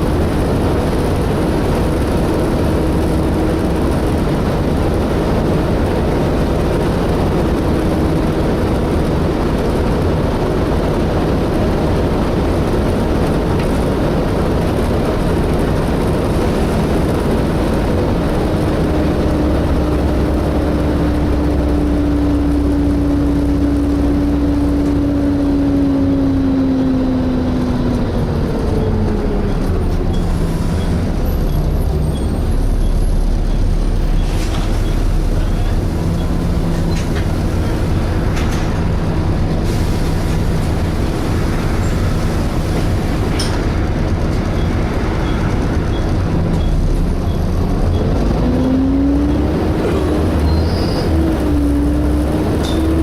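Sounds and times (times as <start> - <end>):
bus engine and fan drone: 0.0 - 53.0
road noise: 0.0 - 53.0.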